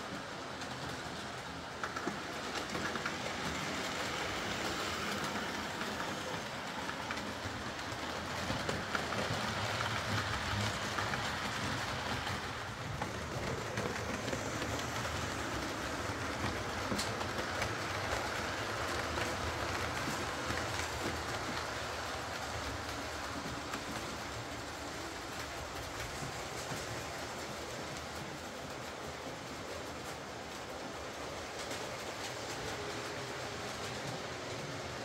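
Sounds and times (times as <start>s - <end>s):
model train running: 0.0s - 35.0s
wheels clicking over rail joints: 0.0s - 35.0s.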